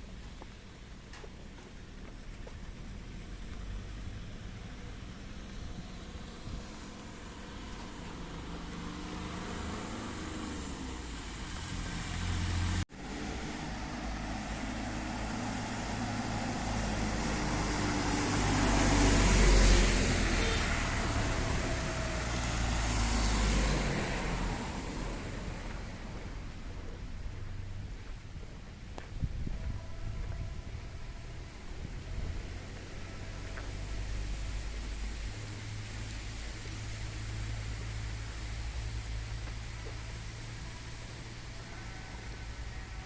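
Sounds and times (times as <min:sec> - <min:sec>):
tyre spray hiss on wet road: 0:00.0 - 0:29.2, 0:30.5 - 0:43.0
vehicle engine rumble: 0:00.0 - 0:43.0.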